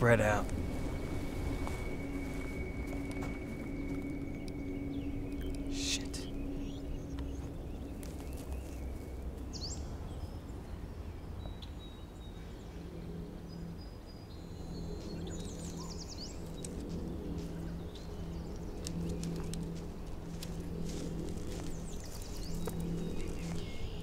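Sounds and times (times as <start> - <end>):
bird chirps: 0.0 - 24.0
steady low rumble: 0.0 - 24.0.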